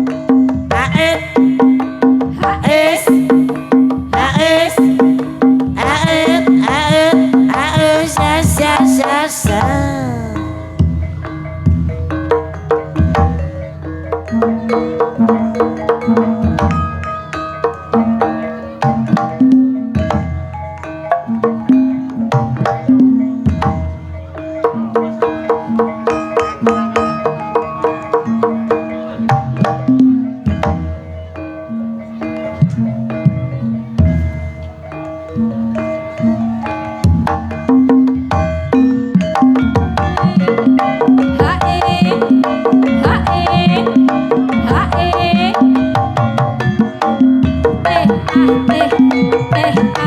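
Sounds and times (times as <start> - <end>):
gamelan music: 0.0 - 50.0
hand drum strokes: 0.0 - 50.0
high gliding melodic line: 0.0 - 50.0
struck metallophone notes: 0.0 - 50.0.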